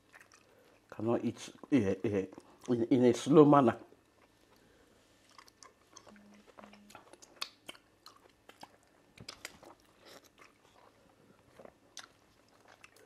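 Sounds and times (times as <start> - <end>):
wet chewing smacks and clicks: 0.0 - 2.8, 5.3 - 13.0.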